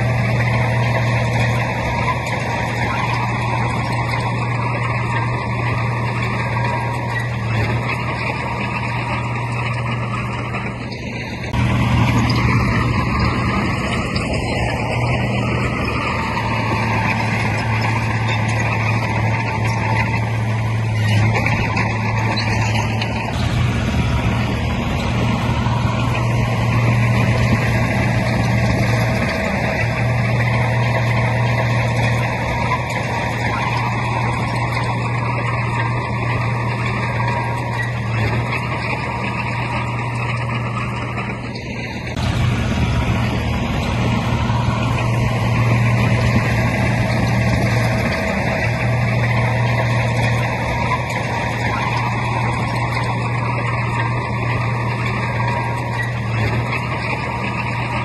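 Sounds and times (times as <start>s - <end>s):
heavy diesel machinery engine hum: 0.0s - 58.0s.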